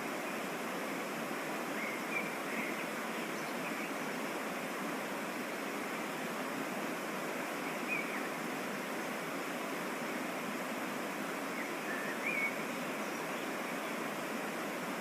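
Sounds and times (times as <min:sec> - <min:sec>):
rush of falling water: 0:00.0 - 0:15.0.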